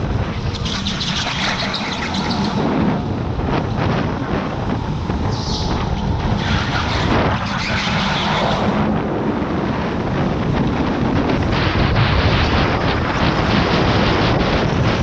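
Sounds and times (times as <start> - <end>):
go-kart tyres rumbling: 0.0 - 15.0
wind buffeting microphone: 0.0 - 15.0.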